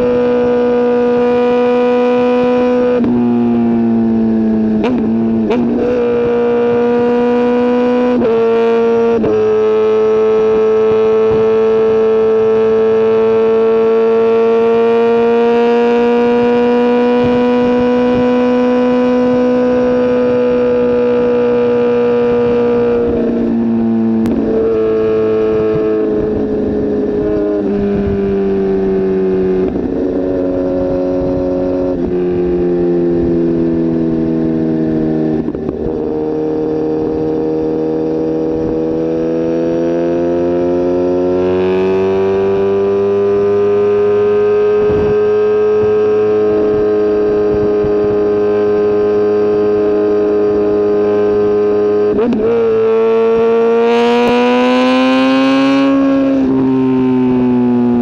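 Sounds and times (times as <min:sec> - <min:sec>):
motorcycle engine high-revving drone: 0:00.0 - 0:58.0.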